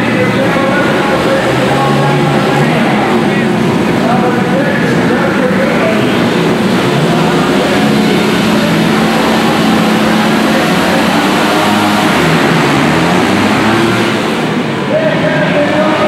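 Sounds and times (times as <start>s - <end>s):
motorcycles revving and accelerating: 0.0s - 16.0s.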